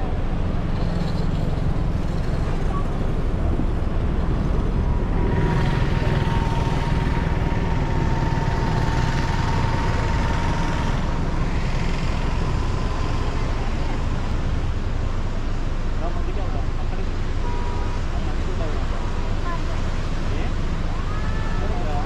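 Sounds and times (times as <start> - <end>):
vehicle and road rumble: 0.0 - 22.0.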